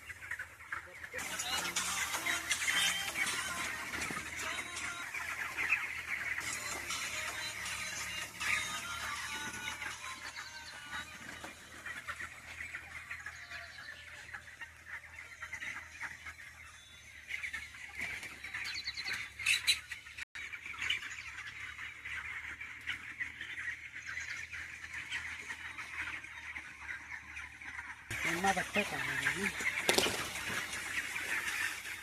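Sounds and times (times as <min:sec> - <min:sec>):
chicken squawk: 0:00.0 - 0:32.0
chickens chirping and clucking: 0:00.0 - 0:32.0.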